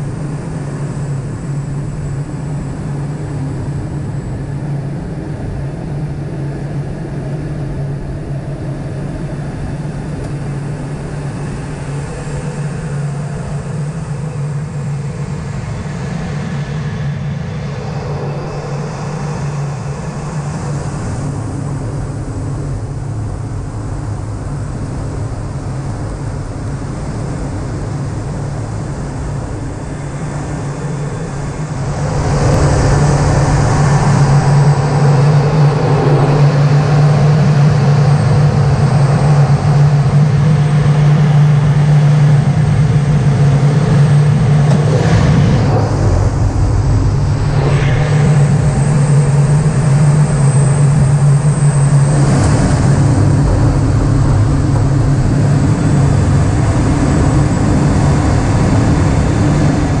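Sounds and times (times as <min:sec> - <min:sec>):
jet engine noise: 0:00.0 - 1:00.0
low hum: 0:00.0 - 1:00.0
rush of airflow: 0:09.4 - 0:40.7, 0:42.4 - 1:00.0.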